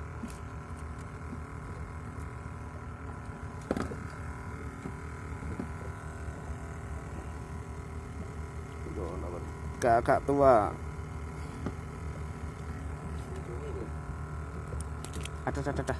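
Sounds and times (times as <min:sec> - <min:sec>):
low mechanical hum: 0:00.0 - 0:15.9.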